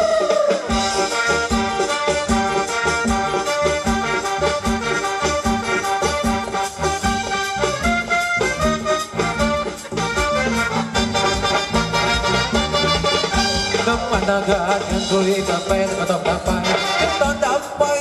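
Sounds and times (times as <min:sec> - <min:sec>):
reedy instrumental melody: 0:00.0 - 0:18.0
steady drum beat: 0:00.0 - 0:18.0.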